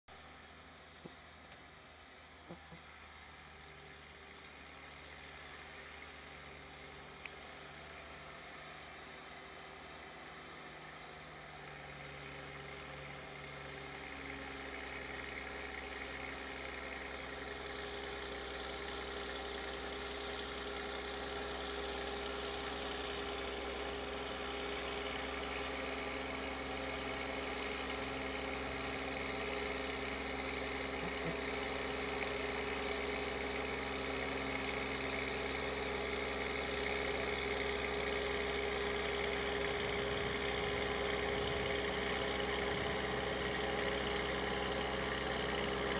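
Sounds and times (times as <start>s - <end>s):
tractor diesel engine under load: 0.1s - 45.9s.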